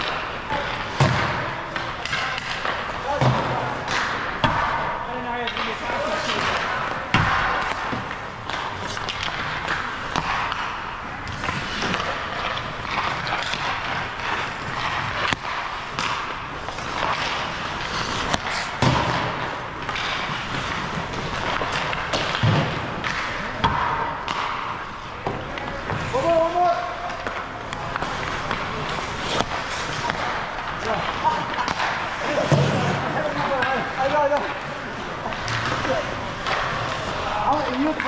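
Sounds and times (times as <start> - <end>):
hockey sticks and pucks knocking: 0.0 - 38.0
skate blades scraping ice: 0.0 - 38.0.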